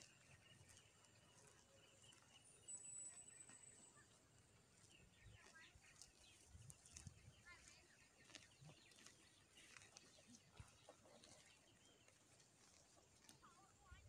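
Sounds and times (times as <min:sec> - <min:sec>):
faint bird chirps: 0:00.0 - 0:12.3.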